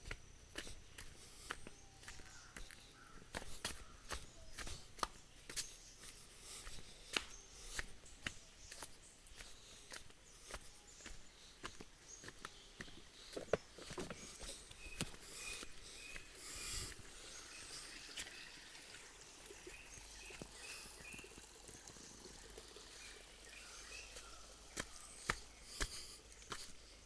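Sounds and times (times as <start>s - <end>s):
soft steady hiss: 2.8s - 27.0s.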